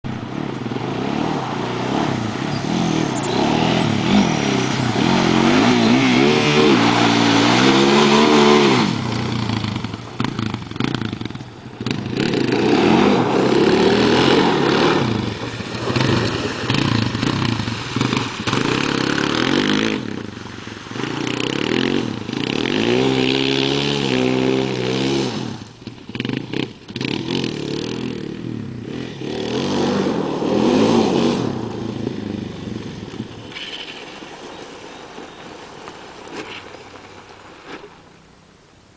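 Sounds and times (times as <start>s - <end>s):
atv engine revving: 0.0s - 37.2s
water splashing: 0.2s - 28.3s, 30.0s - 38.6s.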